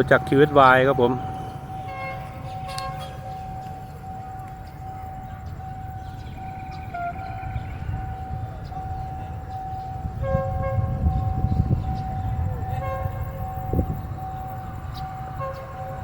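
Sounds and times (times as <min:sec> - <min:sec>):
diesel locomotive rumbling: 0:00.0 - 0:16.0
steady high tone: 0:00.0 - 0:16.0
train horn notes: 0:00.0 - 0:16.0.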